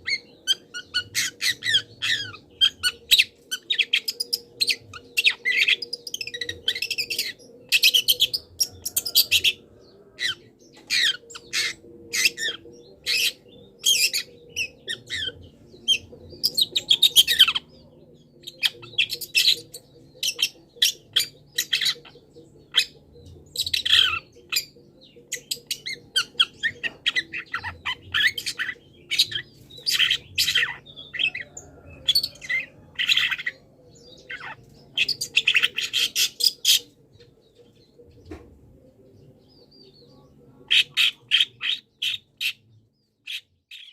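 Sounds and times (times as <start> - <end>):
bird singing high calls: 0.0 - 43.9.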